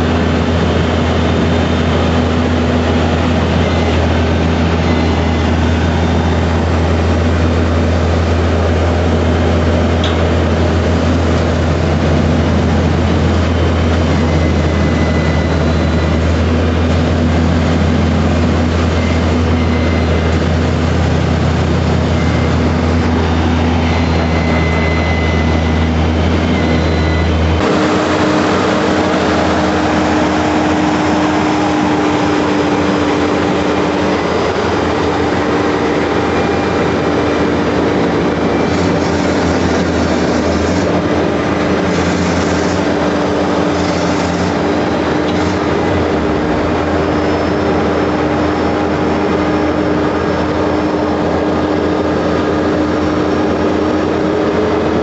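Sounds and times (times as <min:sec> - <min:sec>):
diesel truck engine rumbling: 0:00.0 - 0:55.0
steady hum: 0:00.0 - 0:55.0
trailer rolling: 0:00.0 - 0:55.0.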